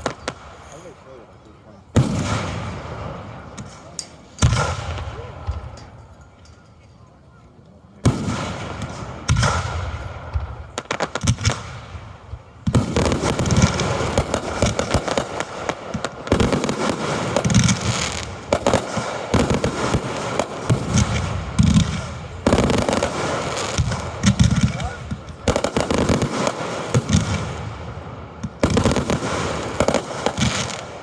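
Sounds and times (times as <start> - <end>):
fireworks bangs and crackles: 0.0 - 6.3, 8.0 - 31.0.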